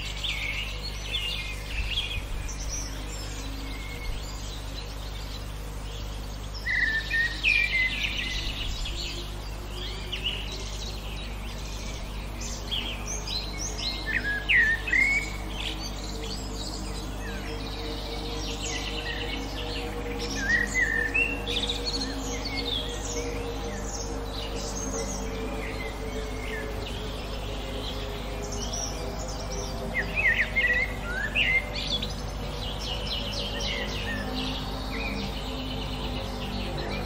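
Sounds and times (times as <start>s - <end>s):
songbirds chirping and singing: 0.0s - 37.0s
steady low hum: 0.0s - 37.0s.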